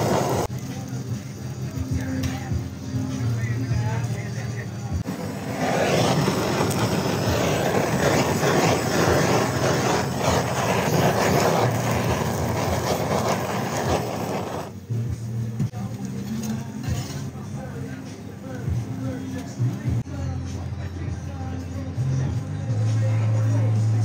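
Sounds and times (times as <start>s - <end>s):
blowtorch hissing: 0.0s - 20.0s.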